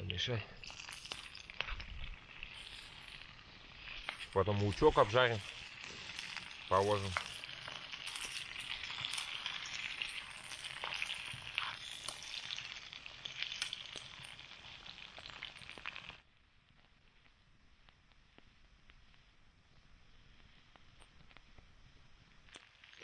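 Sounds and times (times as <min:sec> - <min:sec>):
potatoes sizzling in a pan: 0:00.0 - 0:16.3, 0:18.1 - 0:23.0
small pops: 0:00.0 - 0:21.7, 0:22.4 - 0:23.0.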